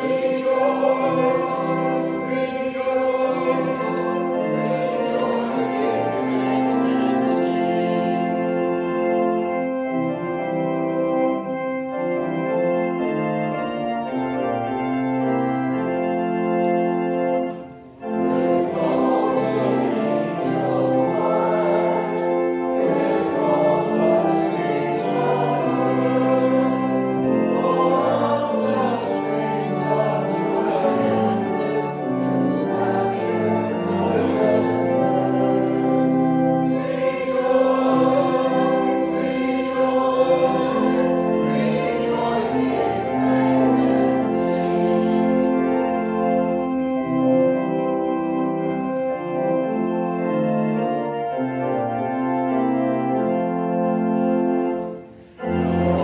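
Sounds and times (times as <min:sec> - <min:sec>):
choir singing a hymn: 0:00.0 - 0:56.0
organ chords: 0:00.0 - 0:56.0.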